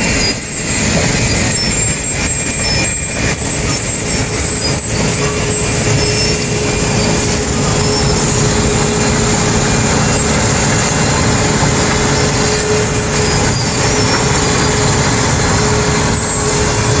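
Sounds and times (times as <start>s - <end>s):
diesel engine rumble: 0.0s - 17.0s
high machinery whine: 0.0s - 17.0s.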